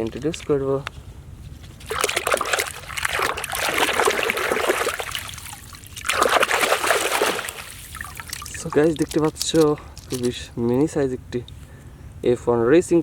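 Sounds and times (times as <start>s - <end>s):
water splashing and trickling: 0.0s - 0.8s, 1.5s - 11.5s.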